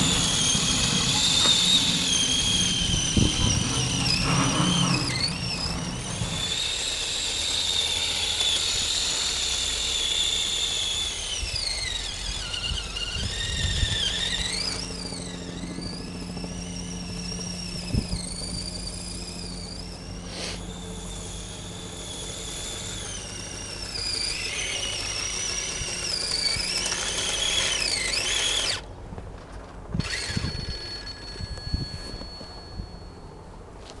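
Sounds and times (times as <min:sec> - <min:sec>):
model electric motor whining: 0:00.0 - 0:28.9, 0:29.9 - 0:33.3.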